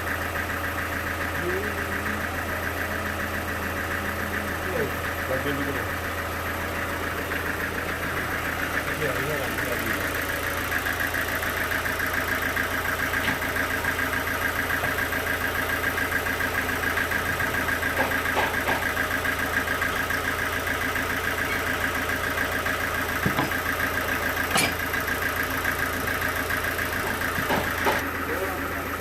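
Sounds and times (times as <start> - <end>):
sawmill machinery running: 0.0 - 29.0.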